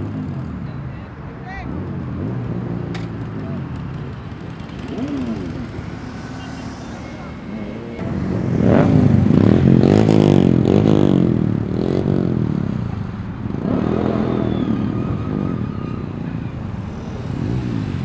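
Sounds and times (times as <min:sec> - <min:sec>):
motorcycle engine revving: 0:01.7 - 0:18.0.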